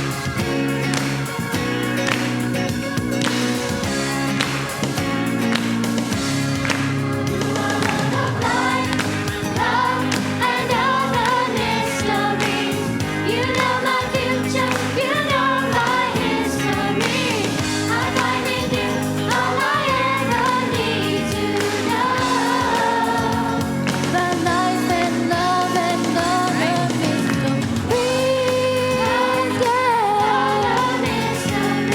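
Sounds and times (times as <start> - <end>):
instrumental accompaniment: 0.0 - 31.9
youth choir singing: 3.2 - 31.9.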